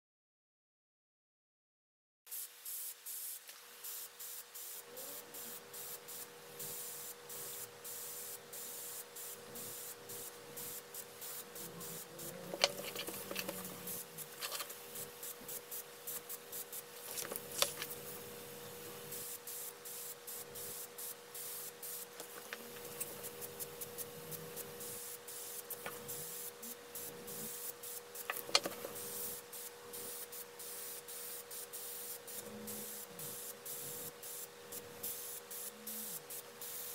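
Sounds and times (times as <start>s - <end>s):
airbrush hissing in bursts: 2.3s - 36.9s
steady hum: 3.4s - 36.9s.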